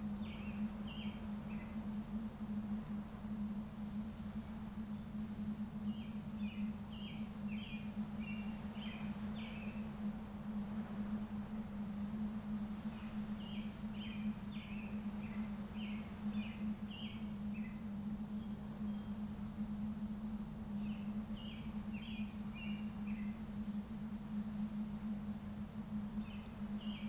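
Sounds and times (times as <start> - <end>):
small bird chirping song: 0.0 - 11.6, 12.2 - 24.1, 25.9 - 27.0
soft background hiss: 0.0 - 27.0
steady low hum: 0.0 - 27.0.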